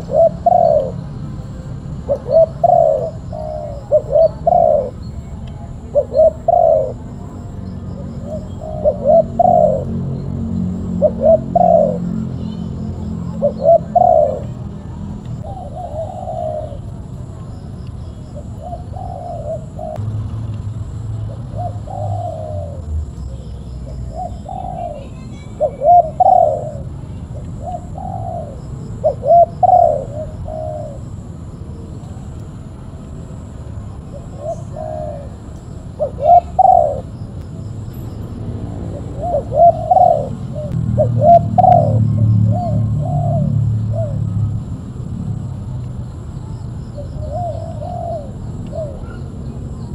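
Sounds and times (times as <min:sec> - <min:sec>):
dove cooing: 0:00.0 - 0:17.2, 0:18.4 - 0:20.0, 0:21.3 - 0:32.2, 0:33.9 - 0:37.4, 0:38.8 - 0:44.5, 0:46.9 - 0:49.9.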